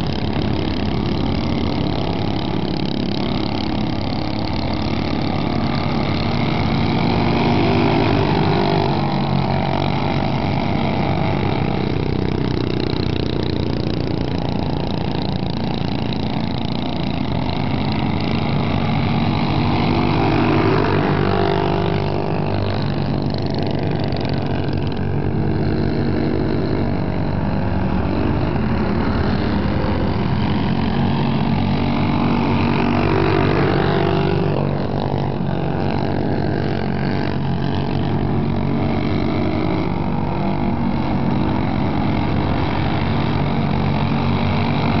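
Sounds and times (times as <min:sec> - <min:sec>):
go-kart engines racing: 0:00.0 - 0:45.0.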